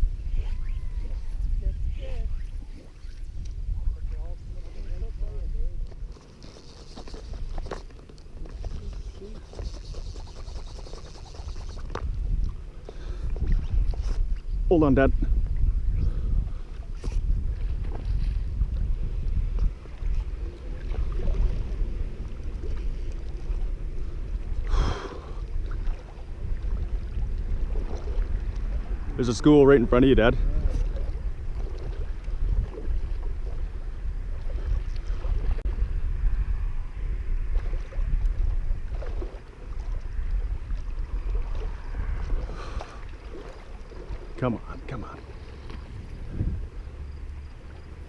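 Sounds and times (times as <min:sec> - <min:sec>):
wind buffeting microphone: 0:00.0 - 0:48.0
water lapping at shore: 0:00.2 - 0:15.0, 0:16.1 - 0:35.9, 0:37.4 - 0:48.0.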